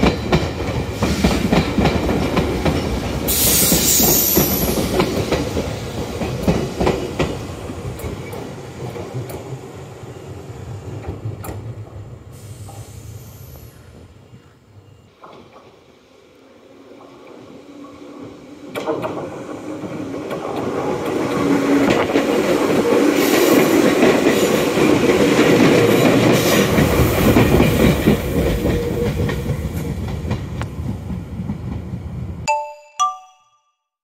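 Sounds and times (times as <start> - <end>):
train wheels rumbling on rails: 0.0 - 14.2, 15.1 - 32.4
electric train passing: 0.0 - 32.5.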